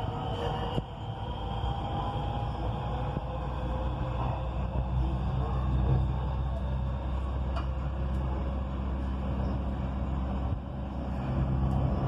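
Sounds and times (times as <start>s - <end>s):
electric train rumbling on track: 0.0s - 12.0s.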